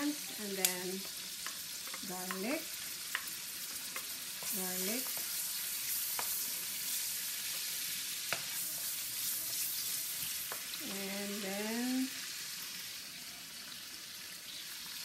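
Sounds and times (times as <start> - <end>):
onions sizzling in a wok: 0.0 - 15.0.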